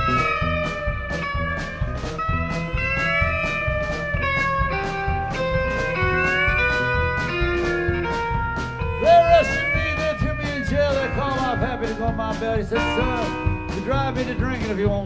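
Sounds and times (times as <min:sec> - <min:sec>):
drums: 0:00.0 - 0:15.0
keyboard: 0:00.0 - 0:15.0
twangy electric guitar lead: 0:00.0 - 0:15.0
upright bass: 0:00.0 - 0:15.0.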